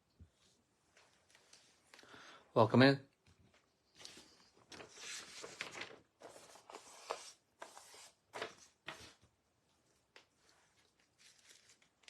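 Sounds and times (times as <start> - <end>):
faint rustling and handling: 0.1 - 2.2, 3.2 - 12.0.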